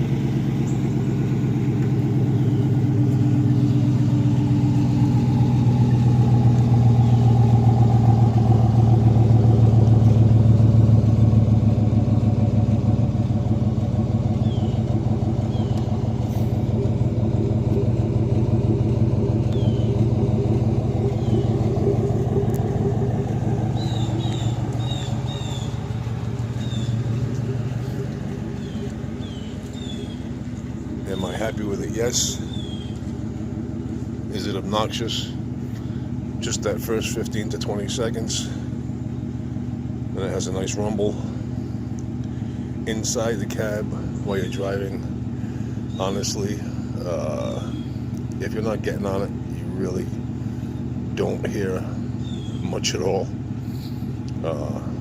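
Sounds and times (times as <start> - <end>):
deep exhaust rumble idling: 0.0 - 55.0.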